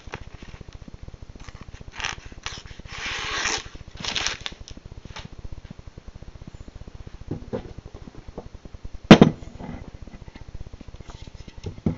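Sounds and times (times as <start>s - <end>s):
steady low buzz: 0.0s - 11.9s.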